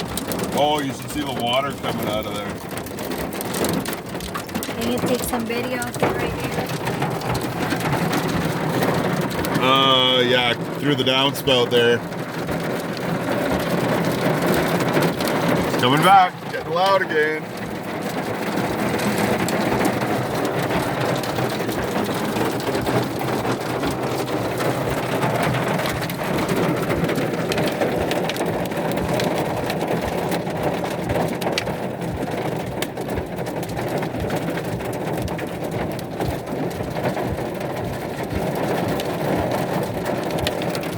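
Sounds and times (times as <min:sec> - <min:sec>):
hail and heavy rain pelting: 0:00.0 - 0:40.9.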